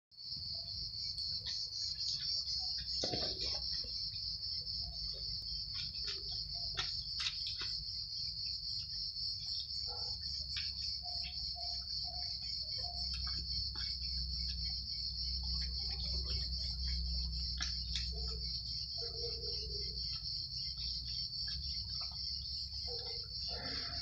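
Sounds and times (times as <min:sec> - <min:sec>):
insect chorus buzzing: 0:00.2 - 0:24.0.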